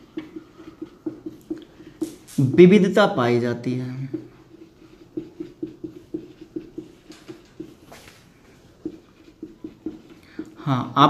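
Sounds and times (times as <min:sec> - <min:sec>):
marker pen writing on whiteboard: 0:00.0 - 0:11.0.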